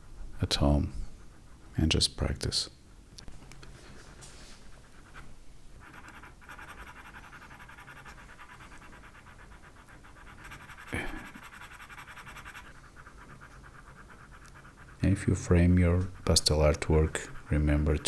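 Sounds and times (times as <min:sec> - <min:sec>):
pencil scratching on paper: 0:00.4 - 0:02.3, 0:03.8 - 0:18.0.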